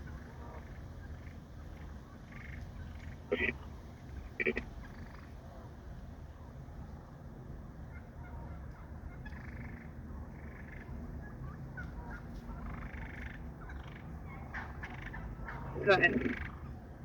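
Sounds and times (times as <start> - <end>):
turkeys gobbling: 0.0 - 5.4, 7.8 - 16.8
low steady rumble: 0.0 - 17.0.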